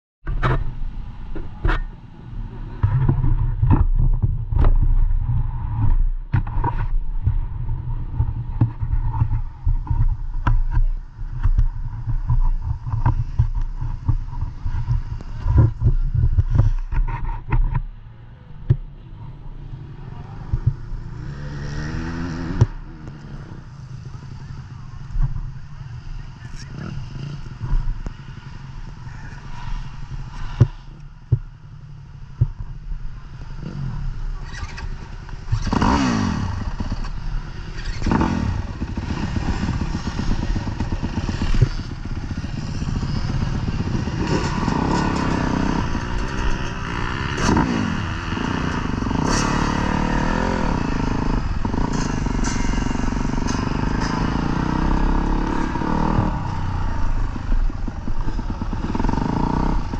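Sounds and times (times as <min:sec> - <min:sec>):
dirt bike engines revving: 0:00.3 - 0:59.9.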